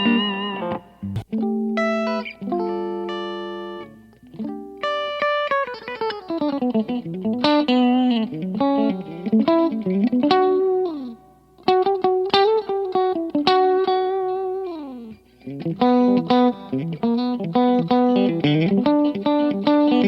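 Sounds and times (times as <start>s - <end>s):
electric guitar solo: 0.0s - 20.0s.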